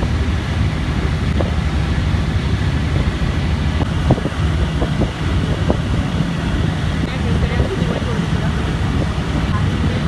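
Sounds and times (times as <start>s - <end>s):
boat engine rumble: 0.0s - 10.0s
wind buffeting microphone: 0.0s - 10.0s.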